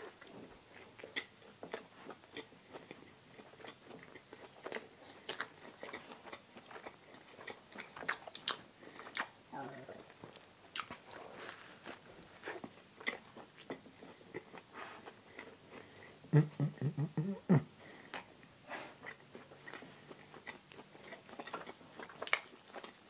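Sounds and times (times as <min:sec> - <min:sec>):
biting and chewing food: 0:00.0 - 0:16.2, 0:17.8 - 0:23.0.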